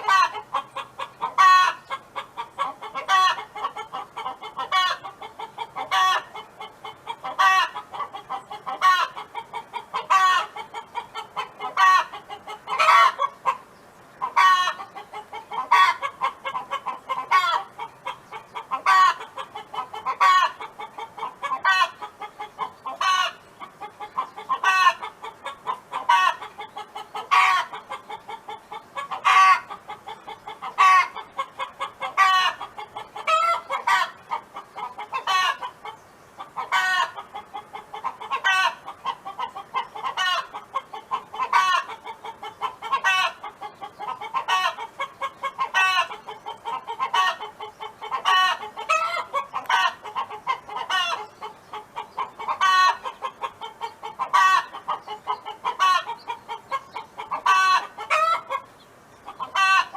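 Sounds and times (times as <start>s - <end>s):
hen clucking: 0.0s - 59.9s
hen drawn-out call: 0.0s - 59.9s.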